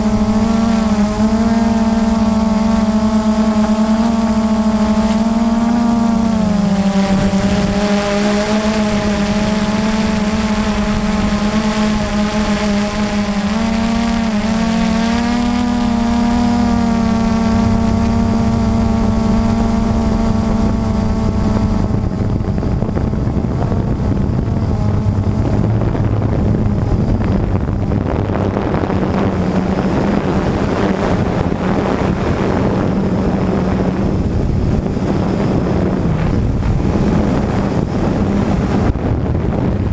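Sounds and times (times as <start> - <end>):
drone motors buzzing: 0.0 - 39.9
wind rushing on microphone: 0.0 - 39.9.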